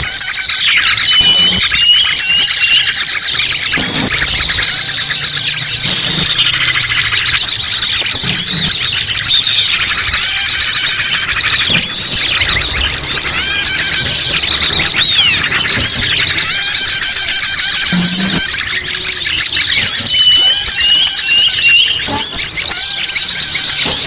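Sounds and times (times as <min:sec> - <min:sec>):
chorus of small birds chirping: 0:00.0 - 0:24.0.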